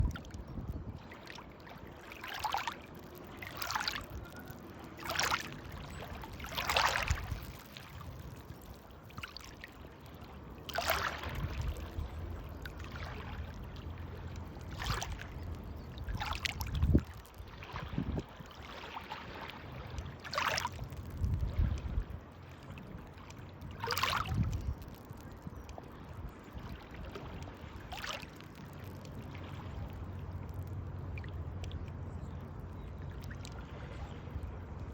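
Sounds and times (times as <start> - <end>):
water splashing in small waves: 0.0 - 34.9.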